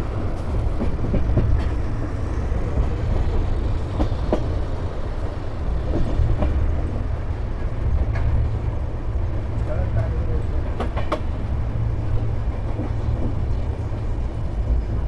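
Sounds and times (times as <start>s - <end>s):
train rumbling along track: 0.0s - 15.0s.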